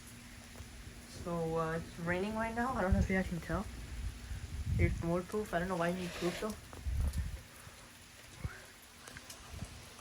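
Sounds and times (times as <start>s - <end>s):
light rain falling: 0.0s - 10.0s.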